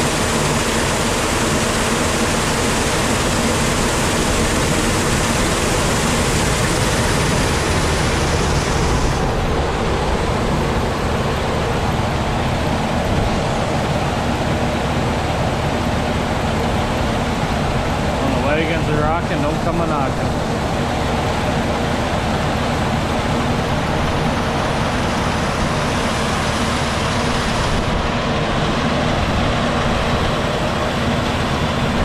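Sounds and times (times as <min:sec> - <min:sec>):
grain cleaner rushing noise: 0:00.0 - 0:32.0
low machine hum: 0:00.0 - 0:32.0.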